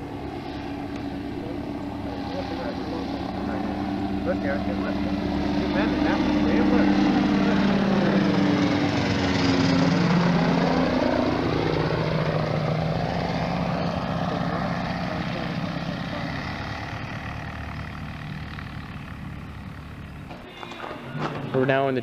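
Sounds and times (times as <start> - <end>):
ultralight aircraft passing by: 0.0 - 22.0.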